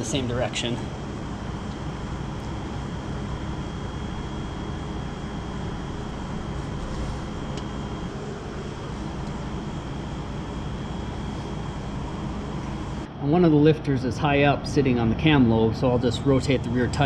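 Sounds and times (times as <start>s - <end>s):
low mechanical hum and hiss: 0.0s - 17.0s
thin high-pitched whine: 0.0s - 17.0s.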